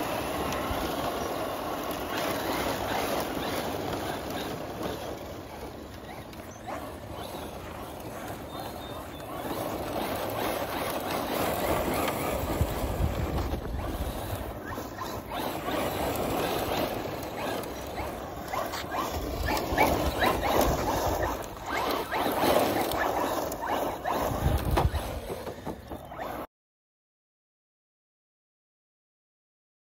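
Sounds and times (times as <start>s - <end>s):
electric rc truck motor surging: 0.0s - 26.5s
tyres scrabbling through dirt: 0.0s - 26.5s.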